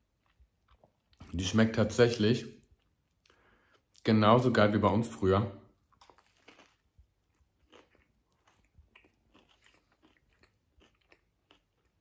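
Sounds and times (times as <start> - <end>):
soft crunchy chewing: 0.0 - 4.2, 5.6 - 12.0.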